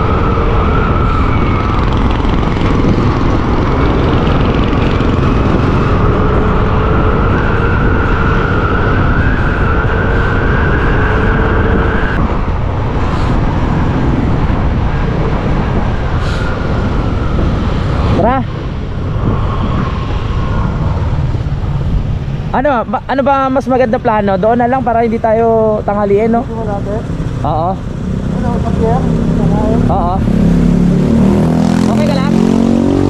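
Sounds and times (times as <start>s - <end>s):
motorcycle engine whine: 0.0s - 33.0s
wind rumble on microphone: 0.0s - 33.0s.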